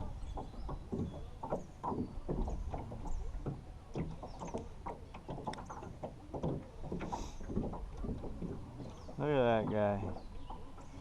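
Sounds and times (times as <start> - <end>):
water slapping against boat: 0.0 - 11.0.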